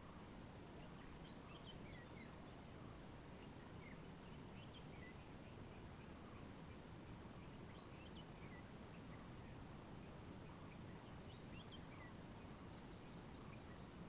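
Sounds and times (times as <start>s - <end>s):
faint bird chirps: 0.0s - 14.0s
steady background hiss: 0.0s - 14.0s.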